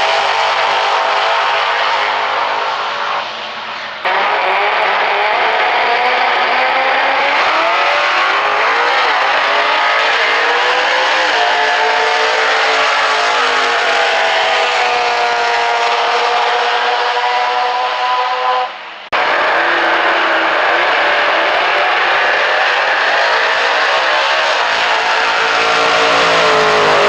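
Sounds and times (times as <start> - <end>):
engine running at high revs: 0.0 - 27.0.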